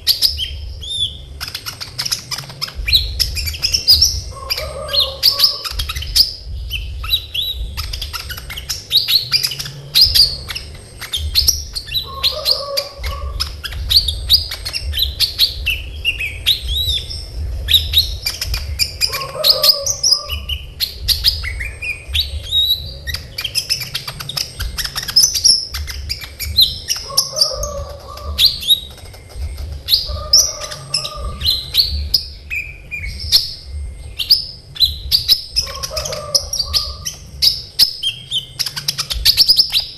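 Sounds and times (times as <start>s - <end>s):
lower-pitched bird call: 0.0s - 39.9s
steady low hum: 0.0s - 39.9s
sunbird chirping and trilling: 0.0s - 39.9s.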